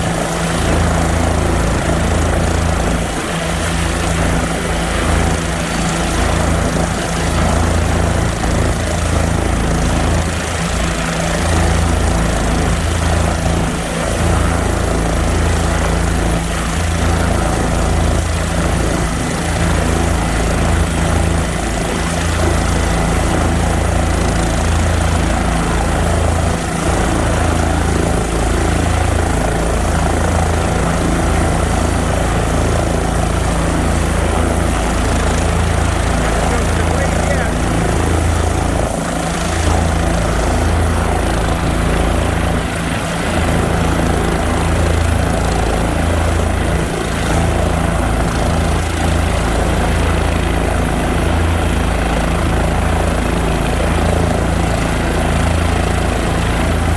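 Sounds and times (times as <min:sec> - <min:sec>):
aircraft engine drone with whine: 0:00.0 - 0:56.9.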